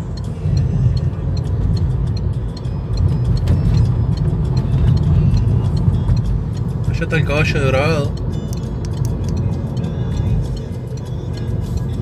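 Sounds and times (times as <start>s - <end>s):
faint regular ticking: 0.0s - 12.0s
road and engine rumble inside car: 0.0s - 12.0s.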